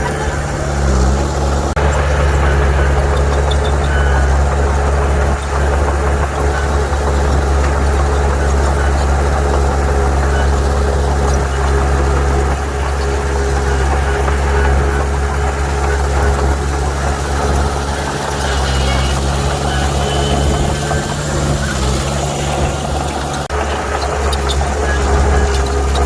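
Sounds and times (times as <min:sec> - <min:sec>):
heavy diesel engine droning: 0:00.0 - 0:26.0.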